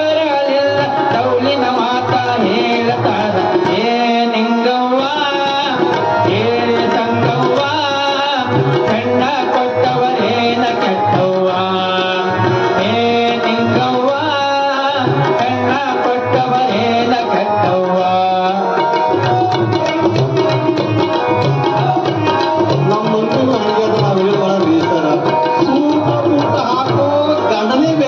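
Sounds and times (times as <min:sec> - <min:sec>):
harmonium: 0:00.0 - 0:28.0
tabla beat: 0:00.0 - 0:28.0.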